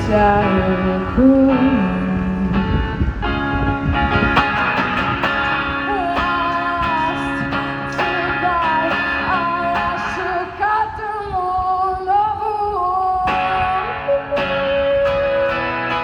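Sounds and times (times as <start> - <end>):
bent melodic guitar line: 0.0 - 16.0
strummed guitar: 0.0 - 16.0.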